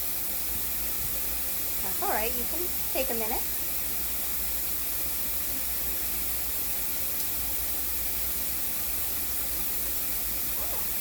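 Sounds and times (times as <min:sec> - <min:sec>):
shower spray hissing: 0:00.0 - 0:11.0.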